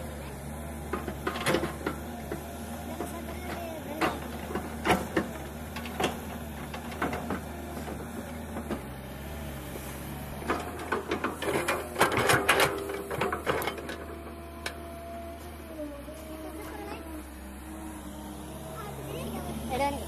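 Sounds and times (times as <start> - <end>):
excavator diesel engine drone: 0.0 - 20.0.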